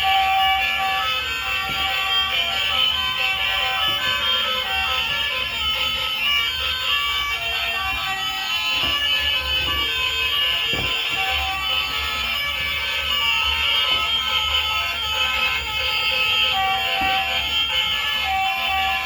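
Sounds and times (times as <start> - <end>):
toy vehicles electronic alarm tones: 0.0 - 19.0.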